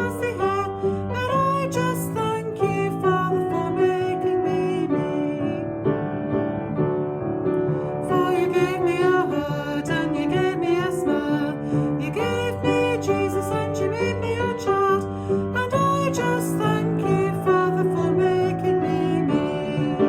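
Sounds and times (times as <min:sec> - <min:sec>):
woman singing: 0:00.0 - 0:05.9, 0:08.0 - 0:20.0
piano backing: 0:00.0 - 0:20.0.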